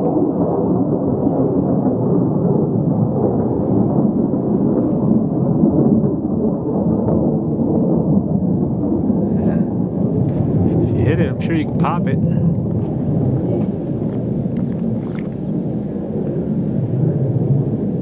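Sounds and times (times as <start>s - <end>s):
distant jet engines rumbling: 0.0s - 18.0s.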